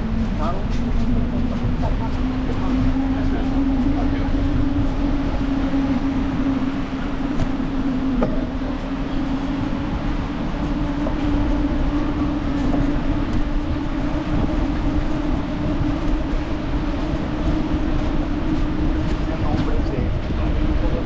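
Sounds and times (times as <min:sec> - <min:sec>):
bicycle riding rumble: 0:00.0 - 0:21.0.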